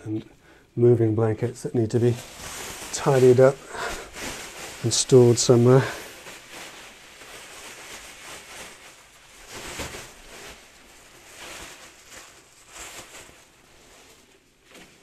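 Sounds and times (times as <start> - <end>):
cloth sheet rustling: 1.8 - 15.0
cloth swishes: 2.0 - 15.0.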